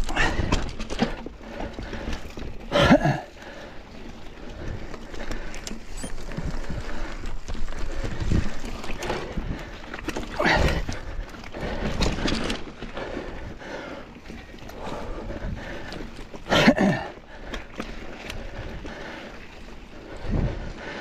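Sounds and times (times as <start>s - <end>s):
bike rattling: 0.0s - 21.0s
bike tyres crunching over rocks: 0.0s - 21.0s
rider breathing hard: 0.0s - 21.0s.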